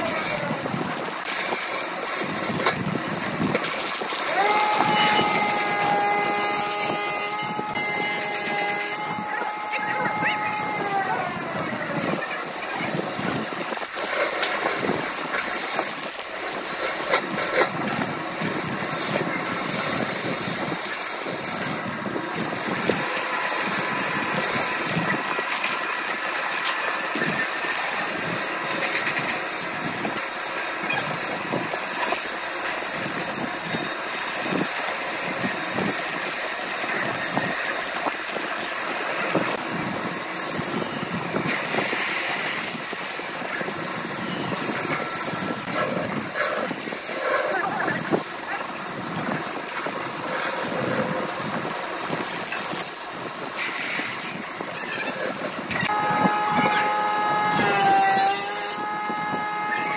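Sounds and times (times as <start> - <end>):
lathe motor: 0.0 - 59.9.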